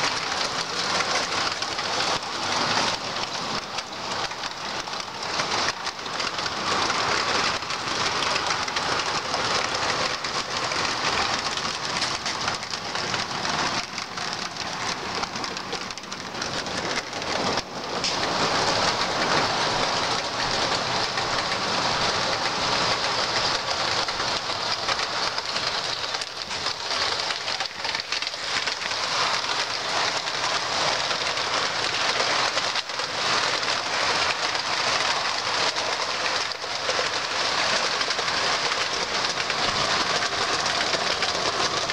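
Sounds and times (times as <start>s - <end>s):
model train wheels clattering: 0.0s - 41.9s.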